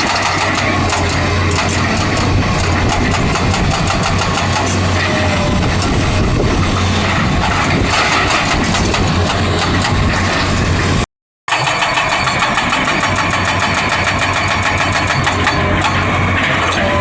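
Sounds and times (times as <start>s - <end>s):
excavator diesel engine: 0.0s - 17.0s
hydraulic breaker hammering: 0.0s - 17.0s.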